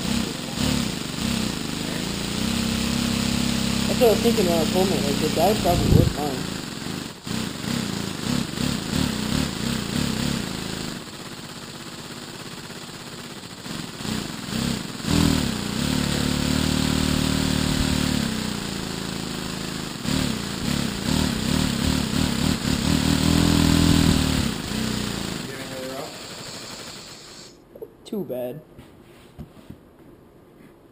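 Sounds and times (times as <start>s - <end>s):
air hissing: 0.0s - 11.0s, 13.8s - 27.6s
compressed-air engine chuffing: 0.0s - 27.6s.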